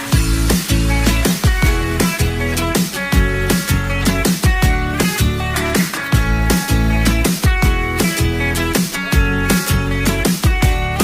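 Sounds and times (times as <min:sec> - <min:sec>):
drum kit beat: 0:00.0 - 0:11.0
guitar: 0:00.0 - 0:11.0.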